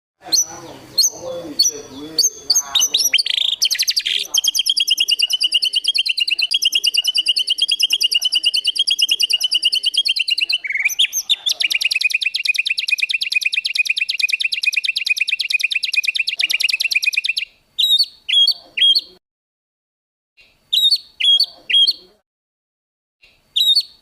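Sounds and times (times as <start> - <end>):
songbird trilling: 0.2 - 19.2, 20.7 - 22.2, 23.6 - 24.0.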